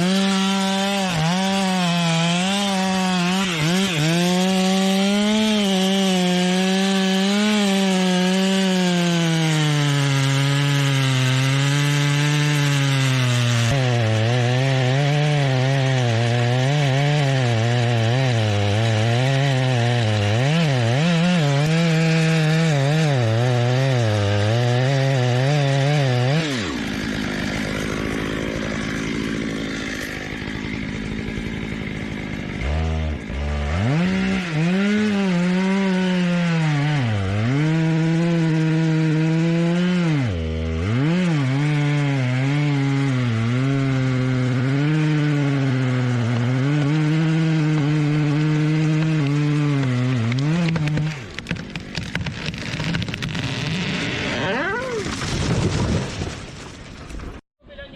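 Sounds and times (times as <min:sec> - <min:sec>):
chainsaw cutting wood: 0:00.0 - 0:57.4.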